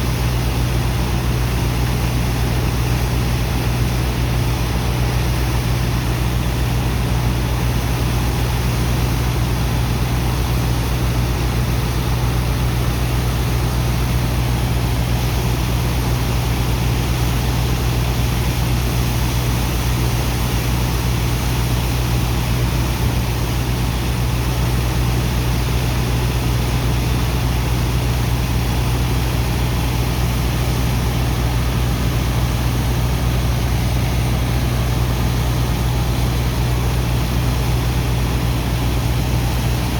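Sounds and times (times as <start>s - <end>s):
dredger engine and pump droning: 0.0s - 39.9s.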